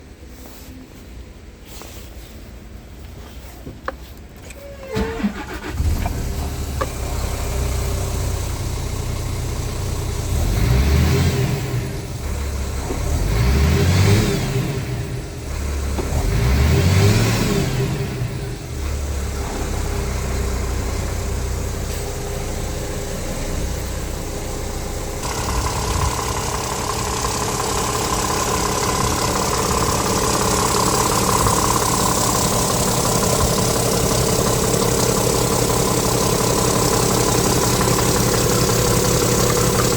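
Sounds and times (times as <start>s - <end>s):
diesel truck engine idling and revving: 5.0s - 39.9s.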